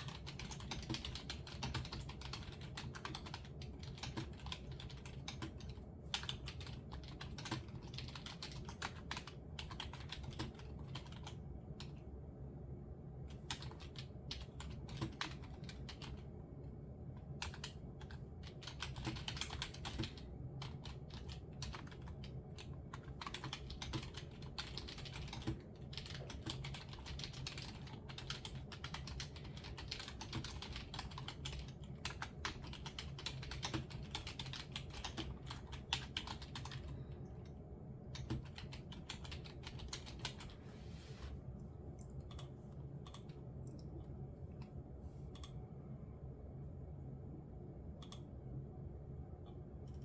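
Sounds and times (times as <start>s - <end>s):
typing on computer keyboard: 0.0s - 12.0s, 13.3s - 16.3s, 17.2s - 40.6s, 42.2s - 43.9s, 48.0s - 48.3s.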